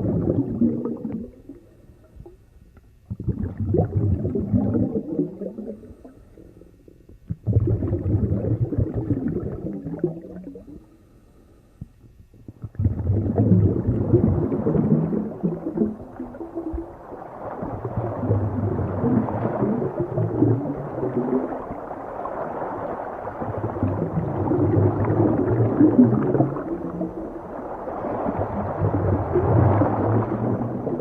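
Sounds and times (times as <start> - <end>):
underwater gurgling rumble: 0.0 - 31.0.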